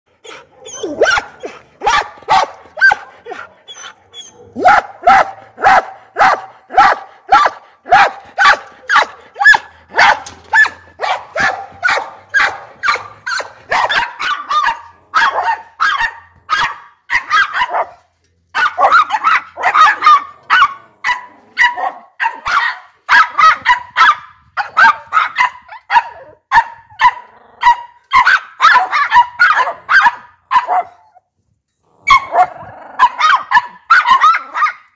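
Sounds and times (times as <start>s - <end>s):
dog barking: 0.2s - 31.2s, 32.0s - 34.9s.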